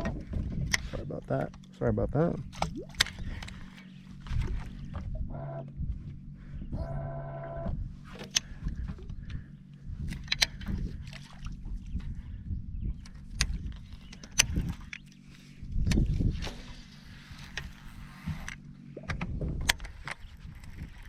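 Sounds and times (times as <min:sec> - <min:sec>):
boat low hum: 0:00.0 - 0:21.0
low rumble: 0:00.0 - 0:21.0.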